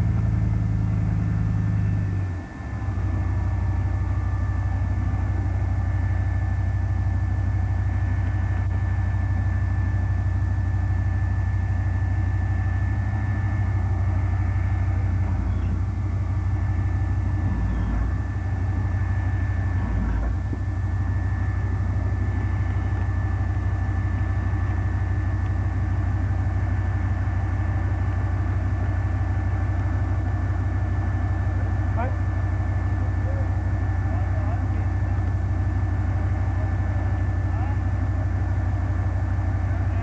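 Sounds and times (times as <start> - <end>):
heavy vehicle engine rumbling: 0.0 - 40.0.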